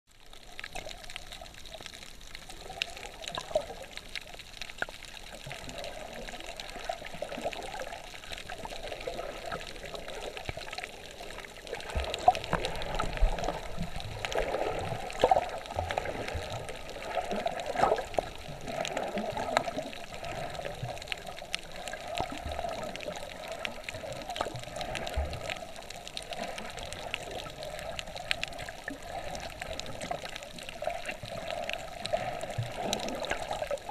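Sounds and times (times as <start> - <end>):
sharp clicks and crackles: 0.1 - 33.9
underwater water swishing: 0.1 - 33.9.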